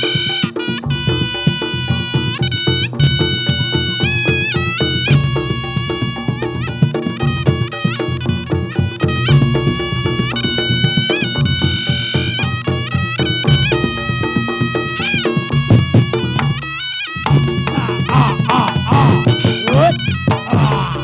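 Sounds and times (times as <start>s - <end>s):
fast drum and gong percussion: 0.0s - 21.0s
reedy shawm melody: 0.0s - 21.0s.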